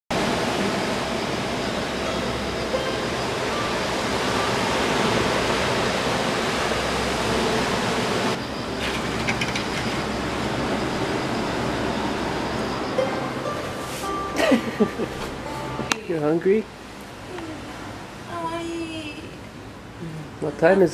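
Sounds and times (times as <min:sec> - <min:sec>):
ocean waves crashing: 0:00.1 - 0:20.4.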